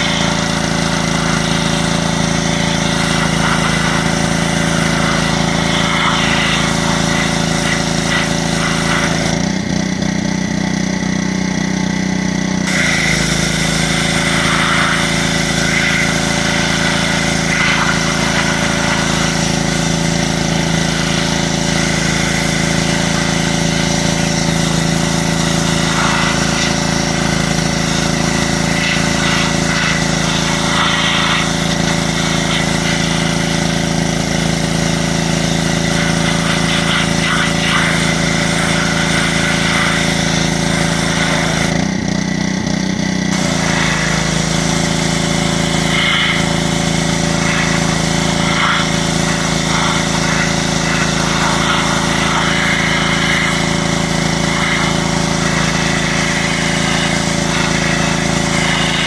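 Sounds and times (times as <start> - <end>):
water spray hiss: 0.0 - 9.3, 12.6 - 41.7, 43.3 - 59.0
pressure washer engine droning: 0.0 - 59.0.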